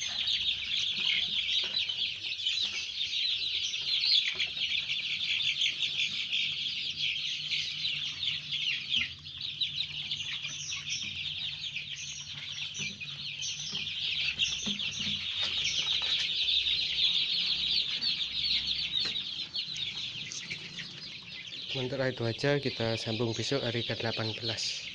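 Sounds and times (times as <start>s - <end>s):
chicks cheeping: 0.0s - 24.9s.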